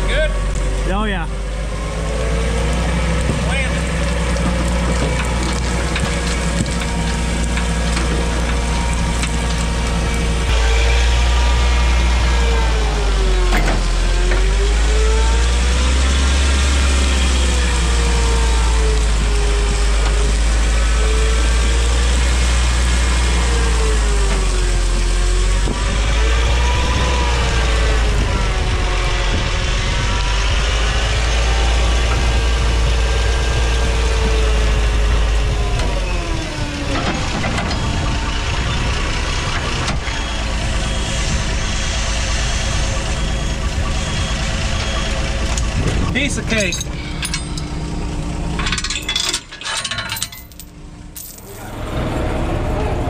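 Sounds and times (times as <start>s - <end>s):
forklift engine rumbling: 0.0s - 53.0s.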